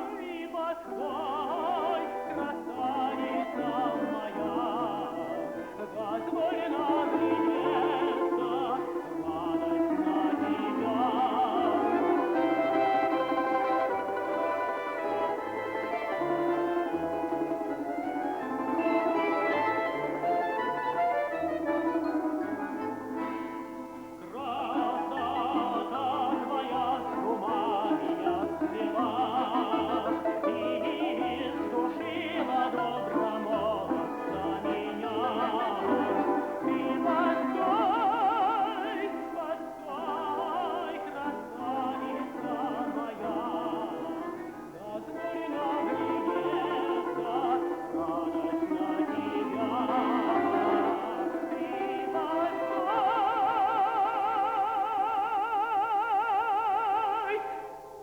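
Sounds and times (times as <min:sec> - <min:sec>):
instrumental ensemble: 0:00.0 - 0:54.6
tenor singing classical song: 0:00.0 - 0:58.0.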